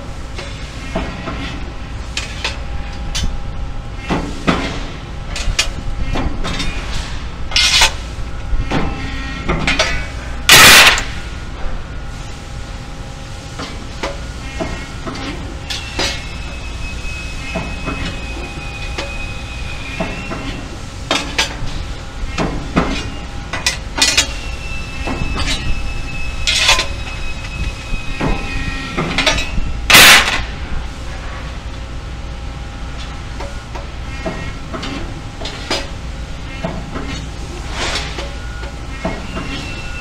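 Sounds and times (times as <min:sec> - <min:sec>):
steady machine hum: 0:00.0 - 0:40.0
high steady whine: 0:01.5 - 0:36.6.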